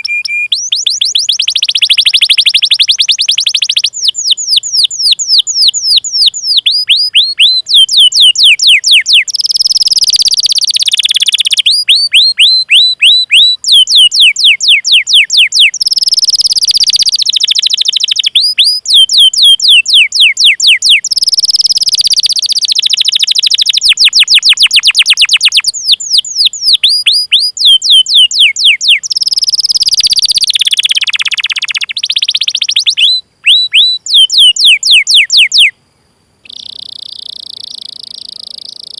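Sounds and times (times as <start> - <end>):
canary singing: 0.0 - 35.8, 36.4 - 38.9.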